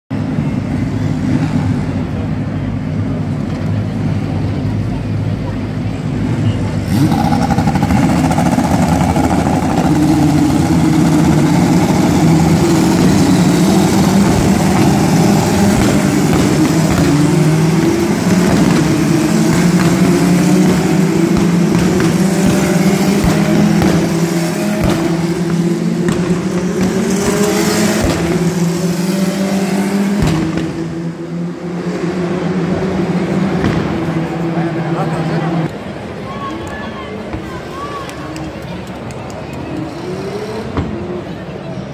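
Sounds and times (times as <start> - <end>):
race car engines revving: 0.1 - 41.9.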